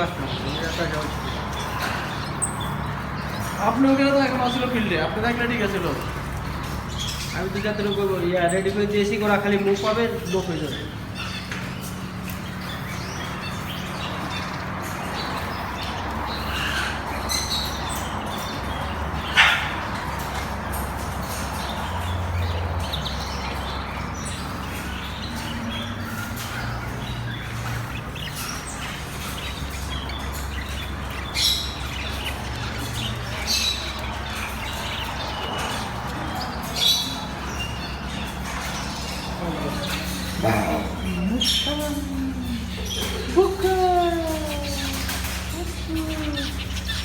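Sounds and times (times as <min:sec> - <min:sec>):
caged birds chirping and squawking: 0:00.0 - 0:47.0.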